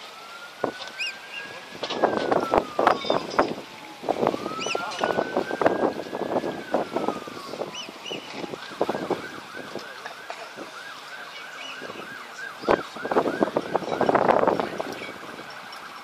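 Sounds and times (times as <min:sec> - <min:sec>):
siren yelping: 0:00.0 - 0:16.0.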